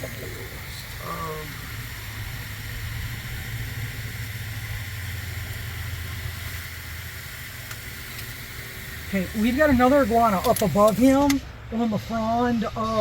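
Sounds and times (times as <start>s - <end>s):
low motor hum: 0.0s - 12.4s
high whine and hiss: 0.0s - 13.0s.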